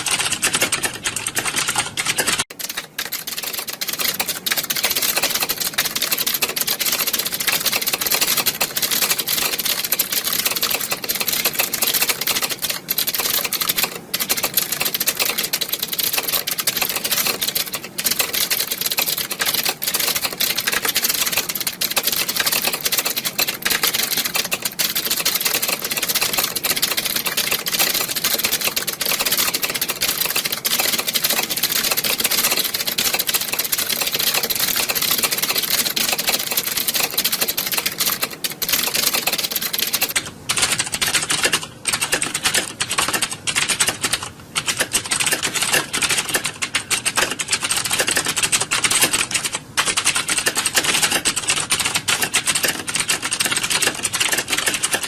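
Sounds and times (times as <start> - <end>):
keyboards typing clatter: 0.0 - 55.0.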